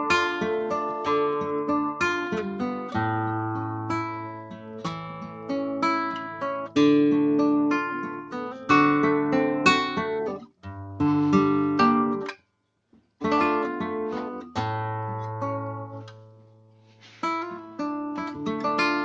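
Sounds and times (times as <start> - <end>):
classical guitar played fingerstyle: 0.0 - 12.4, 13.2 - 19.0.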